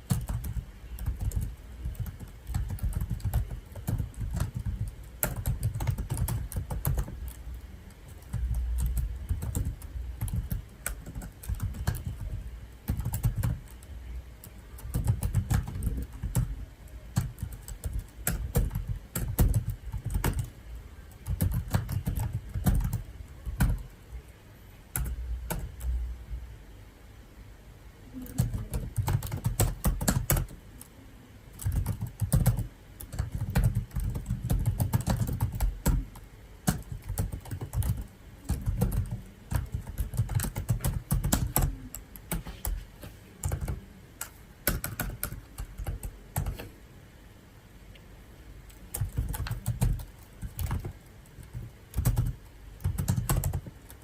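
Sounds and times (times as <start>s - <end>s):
keyboard typing clicks: 0.0s - 20.5s, 21.2s - 23.9s, 24.9s - 26.0s, 28.2s - 30.9s, 31.5s - 42.8s, 43.4s - 46.7s, 48.7s - 54.0s.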